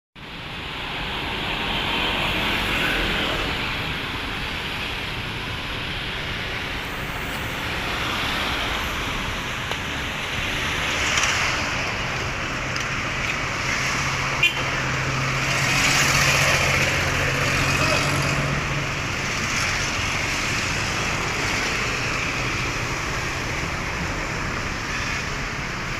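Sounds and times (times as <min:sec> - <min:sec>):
passing cars: 0:00.2 - 0:25.9.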